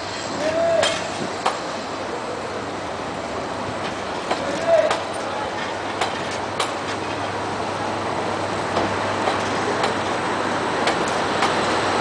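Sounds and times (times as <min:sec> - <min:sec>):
train coaches rumbling on track: 0:00.0 - 0:12.0
wheels clicking over rail joints: 0:00.2 - 0:01.7, 0:03.7 - 0:12.0.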